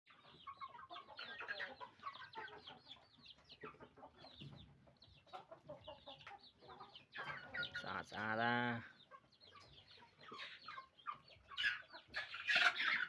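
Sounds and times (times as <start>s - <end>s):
chickens clucking: 0.1s - 13.0s.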